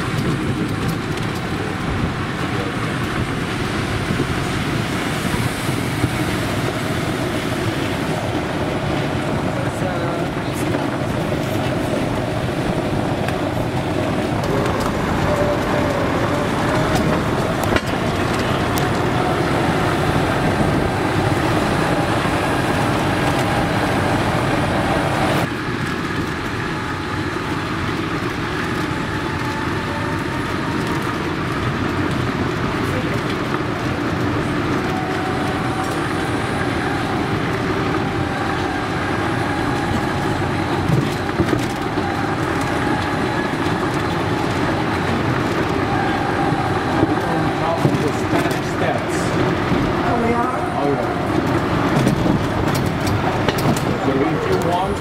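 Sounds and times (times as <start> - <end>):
golf cart rumbling: 0.0 - 55.0.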